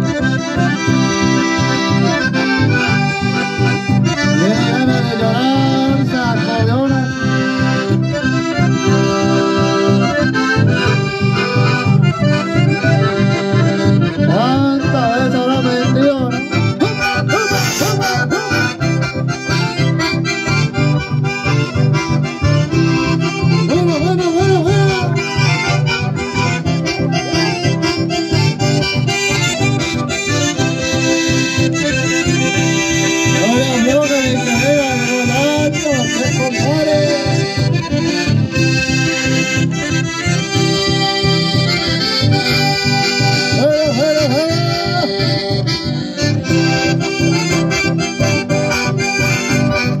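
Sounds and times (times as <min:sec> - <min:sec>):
button accordions playing: 0:00.0 - 0:50.0
strummed acoustic guitar: 0:00.0 - 0:50.0.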